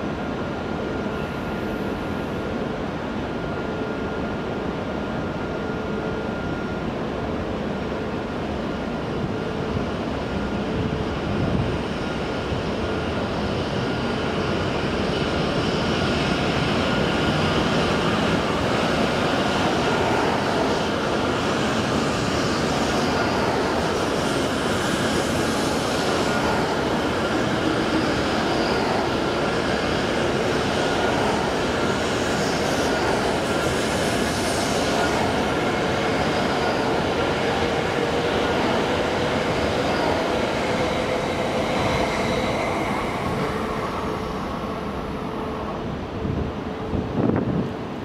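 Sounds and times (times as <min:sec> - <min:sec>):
train rolling past: 0:00.0 - 0:48.0.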